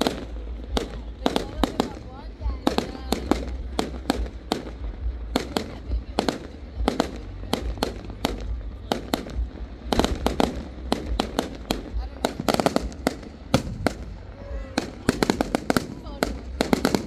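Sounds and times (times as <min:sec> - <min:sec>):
fireworks bangs and crackles: 0:00.0 - 0:17.0
low rumble: 0:00.0 - 0:17.0.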